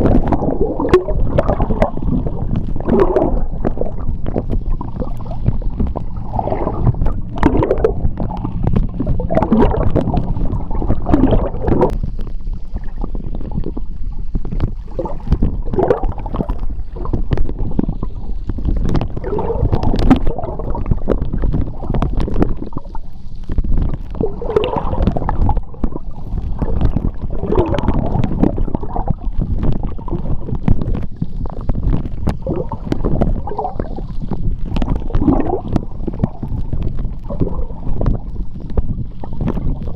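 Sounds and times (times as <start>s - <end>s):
gurgling bubbles: 0.0s - 39.9s
sharp clicks and crackles: 0.0s - 39.9s
underwater rumble of moving water: 0.0s - 39.9s.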